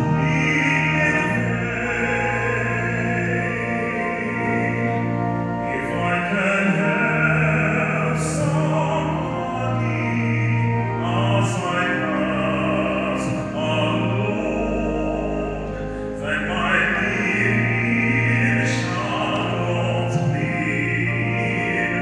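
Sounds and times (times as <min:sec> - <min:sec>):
classical-style singing: 0:00.0 - 0:22.0
sustained low accompaniment: 0:00.0 - 0:22.0.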